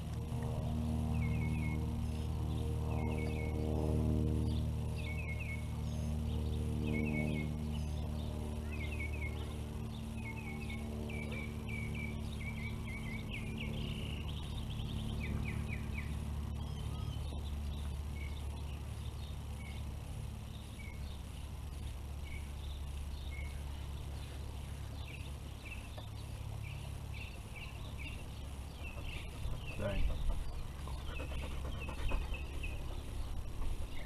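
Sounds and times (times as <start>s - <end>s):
low outdoor rumble: 0.0s - 34.0s
small birds chirping: 0.2s - 34.0s.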